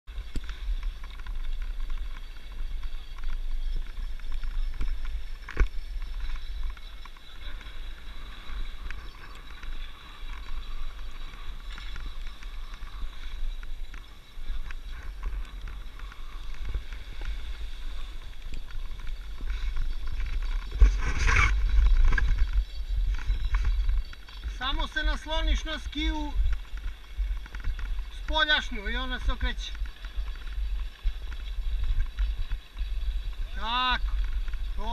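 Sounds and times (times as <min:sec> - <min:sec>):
wind rumble on microphone: 0:00.0 - 0:34.9
ski edges scraping snow: 0:00.1 - 0:34.9
skis sliding over snow: 0:00.1 - 0:34.9.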